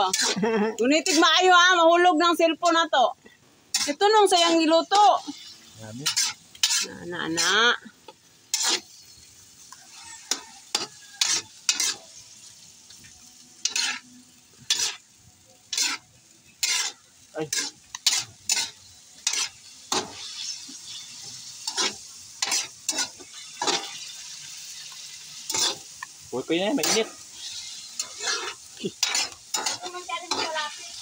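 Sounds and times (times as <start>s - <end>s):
metal ladle scraping a wok: 0.0s - 1.5s, 3.7s - 7.6s, 8.4s - 12.3s, 13.0s - 26.1s, 26.7s - 31.0s
meat sizzling in a wok: 0.0s - 31.0s.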